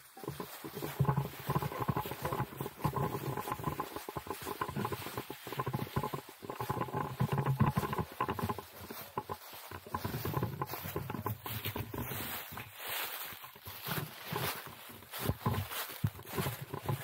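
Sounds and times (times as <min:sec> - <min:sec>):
dry leaves rustling and crunching: 0:00.0 - 0:17.0.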